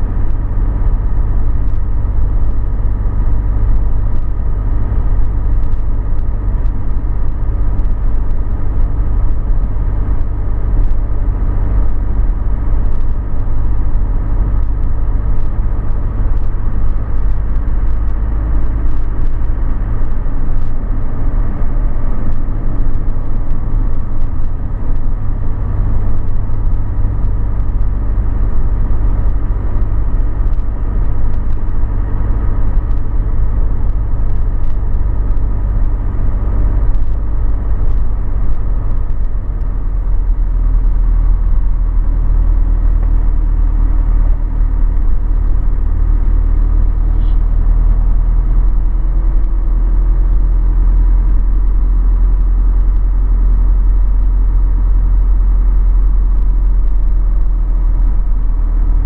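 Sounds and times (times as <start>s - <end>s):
vehicle engine and tyre rumble: 0.0s - 59.0s.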